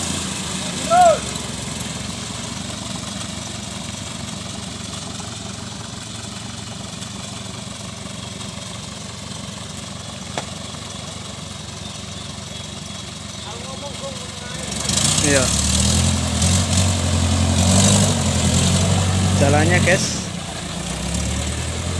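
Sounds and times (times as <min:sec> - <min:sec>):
diesel truck engine running: 0:00.0 - 0:21.9.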